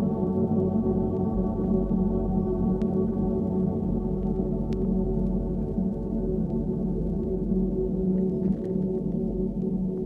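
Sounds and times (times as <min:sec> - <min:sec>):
ambient drone music: 0:00.0 - 0:10.0.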